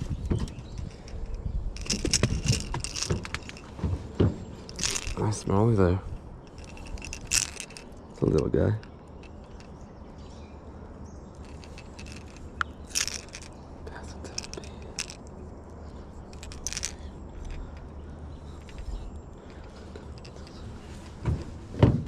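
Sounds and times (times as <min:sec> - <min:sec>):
clicks and rattles of hooks: 0:00.0 - 0:05.6, 0:06.4 - 0:09.8, 0:11.4 - 0:15.4, 0:16.2 - 0:22.0
low background noise: 0:00.0 - 0:22.0.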